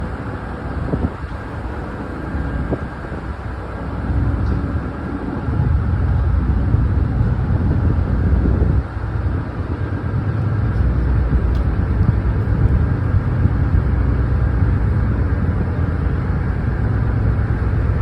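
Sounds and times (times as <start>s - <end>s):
engine rumble: 0.0s - 18.0s.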